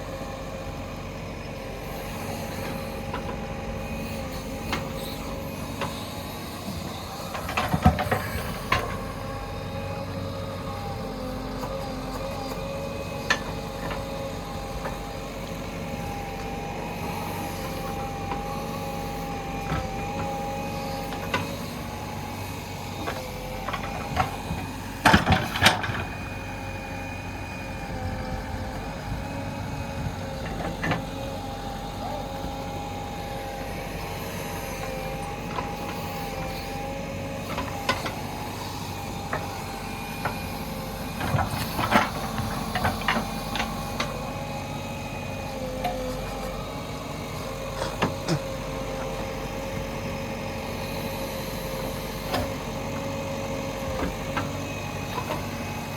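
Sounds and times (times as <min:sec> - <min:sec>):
backhoe loader running: 0:00.0 - 0:55.9.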